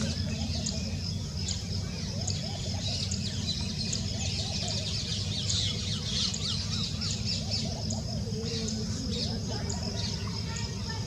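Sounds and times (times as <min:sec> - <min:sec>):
small birds chirping chorus: 0:00.0 - 0:11.0.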